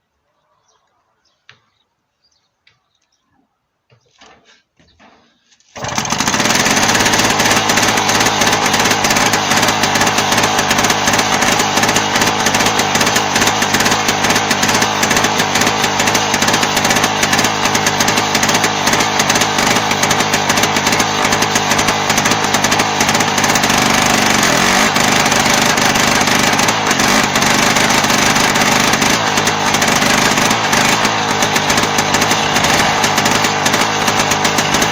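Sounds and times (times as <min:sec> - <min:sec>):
crawler tractor diesel engine clattering: 0:05.8 - 0:34.9.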